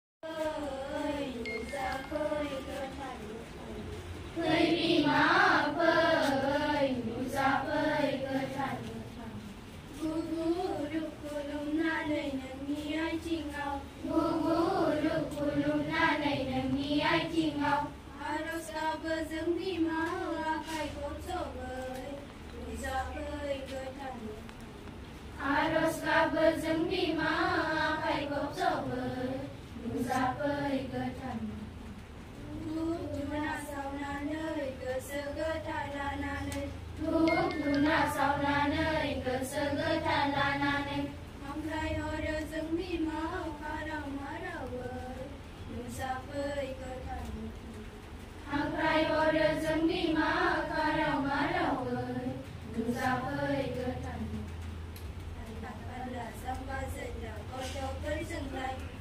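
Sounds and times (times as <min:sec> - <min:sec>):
children singing in unison: 0:00.2 - 0:03.0, 0:04.3 - 0:09.0, 0:10.0 - 0:23.9, 0:25.4 - 0:31.4, 0:32.6 - 0:47.0, 0:48.4 - 0:54.2.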